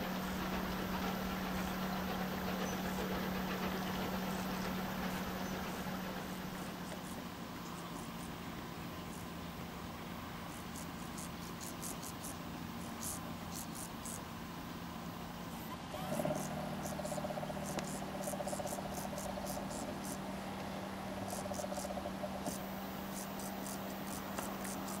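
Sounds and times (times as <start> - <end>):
grasshoppers chirping: 0.0 - 9.4, 10.5 - 14.3, 16.1 - 20.4, 21.0 - 25.0
low steady hum: 0.0 - 25.0.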